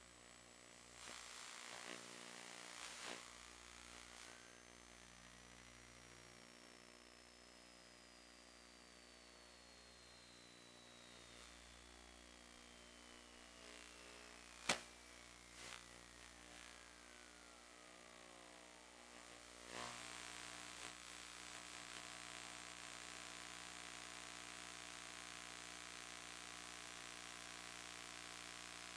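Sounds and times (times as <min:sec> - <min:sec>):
electrical hum and hiss: 0:00.0 - 0:28.9.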